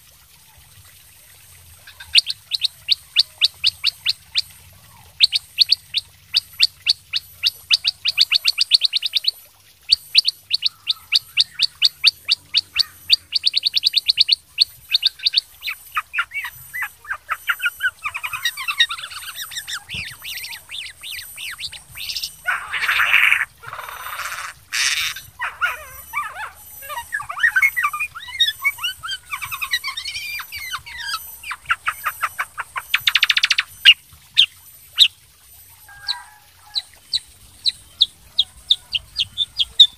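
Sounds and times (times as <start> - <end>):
songbird singing: 1.8 - 39.9.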